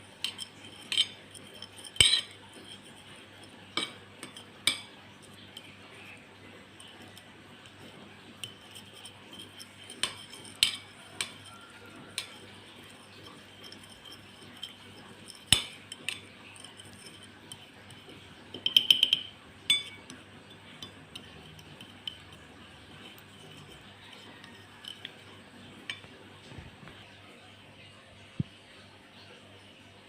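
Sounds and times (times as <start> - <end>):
metal utensil clinking on dishes: 0.0 - 26.6.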